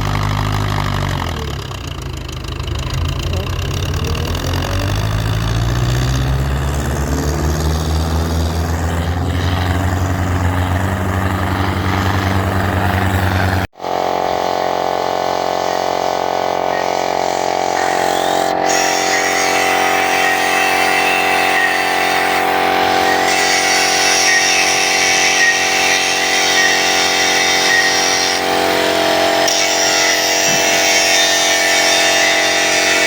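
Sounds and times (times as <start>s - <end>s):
combine harvester engine rumble: 0.0s - 31.5s.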